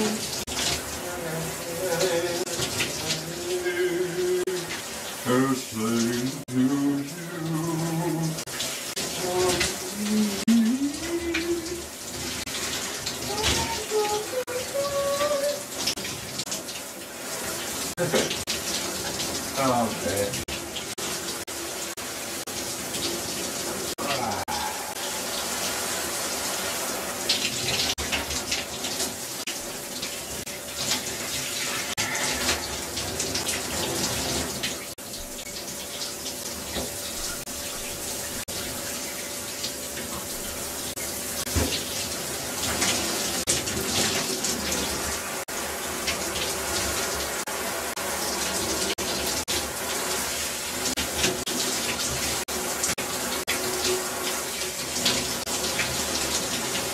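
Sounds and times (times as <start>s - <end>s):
water running steadily: 0.0s - 56.9s.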